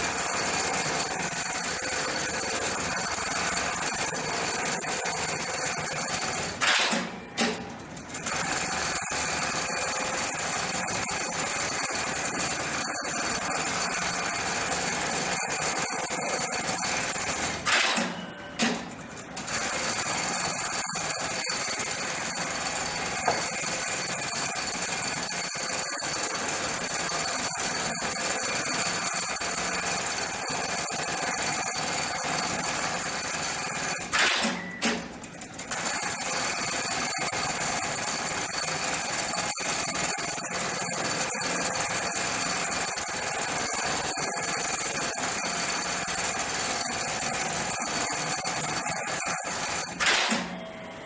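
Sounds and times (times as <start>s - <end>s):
industrial sewing machine stitching: 0.0s - 50.7s.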